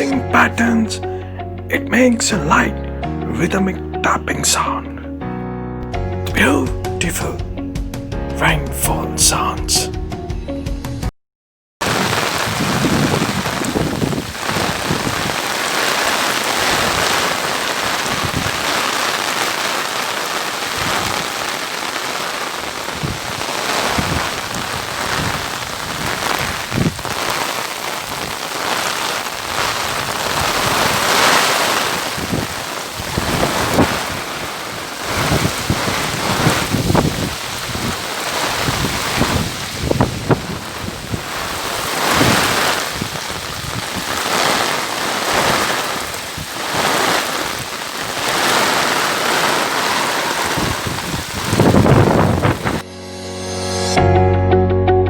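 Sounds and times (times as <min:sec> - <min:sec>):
heavy rain hissing: 0:00.0 - 0:02.8, 0:06.3 - 0:07.5, 0:08.4 - 0:09.9, 0:11.8 - 0:52.9.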